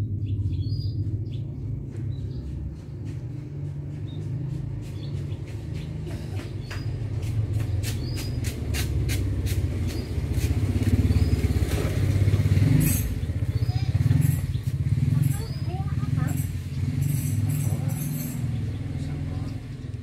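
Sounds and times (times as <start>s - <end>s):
engine low rumble: 0.0s - 20.0s.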